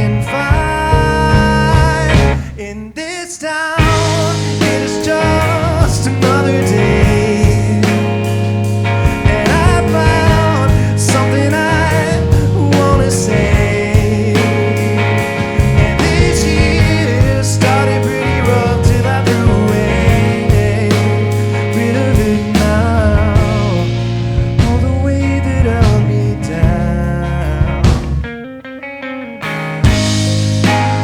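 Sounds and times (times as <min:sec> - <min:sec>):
drum and cymbal hits: 0:00.0 - 0:02.8, 0:03.8 - 0:28.3, 0:29.8 - 0:31.0
bass notes: 0:00.0 - 0:03.0, 0:03.8 - 0:28.5, 0:29.4 - 0:31.0.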